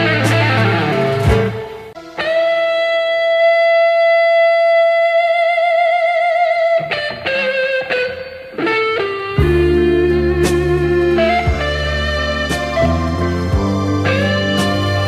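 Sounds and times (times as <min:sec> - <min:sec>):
electric guitar notes: 0:00.0 - 0:15.0.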